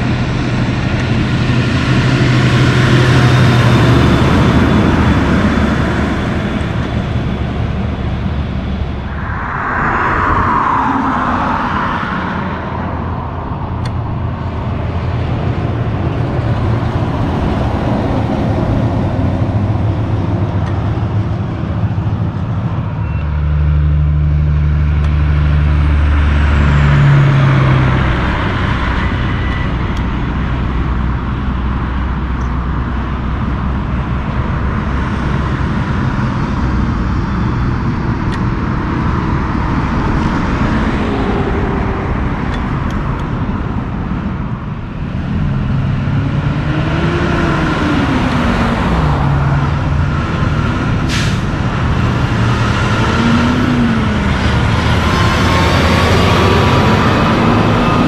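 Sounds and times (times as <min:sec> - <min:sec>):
diesel truck engine drone: 0:00.0 - 0:58.0
highway traffic passing: 0:00.0 - 0:58.0.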